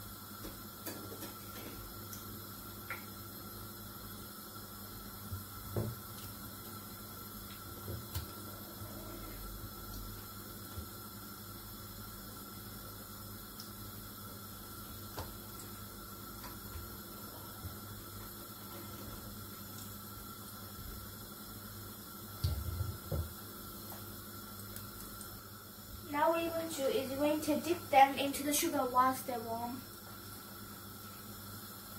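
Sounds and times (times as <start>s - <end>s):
batter frying in hot oil: 0.0s - 31.9s.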